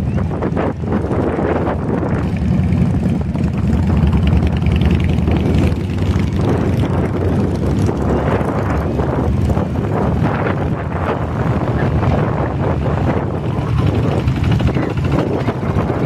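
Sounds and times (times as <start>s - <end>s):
motorcycle engines running low: 0.0s - 16.0s.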